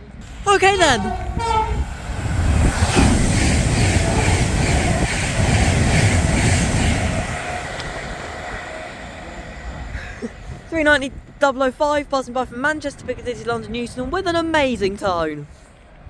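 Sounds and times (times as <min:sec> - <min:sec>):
electric train passing at speed: 0:00.0 - 0:15.2.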